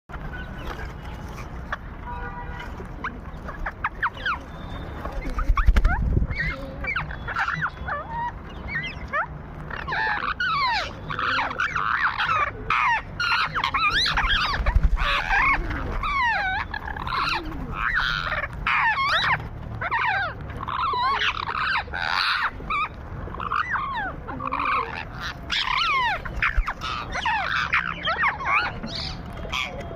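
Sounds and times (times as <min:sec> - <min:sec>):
parrots chattering and squawking: 0:00.2 - 0:29.9.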